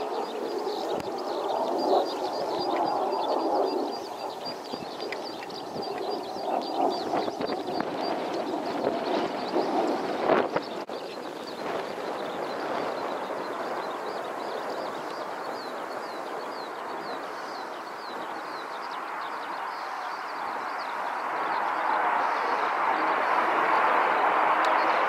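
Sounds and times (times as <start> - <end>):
bird chirps: 0.0 - 22.7
jet engine roaring: 0.0 - 25.0.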